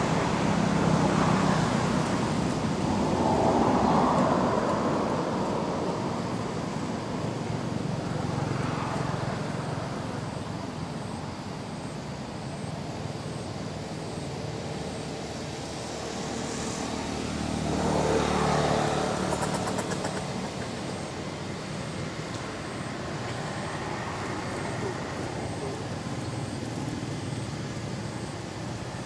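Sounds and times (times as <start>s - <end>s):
motor vehicle passing: 0.0s - 10.4s, 14.7s - 29.0s
background road traffic: 0.0s - 29.0s.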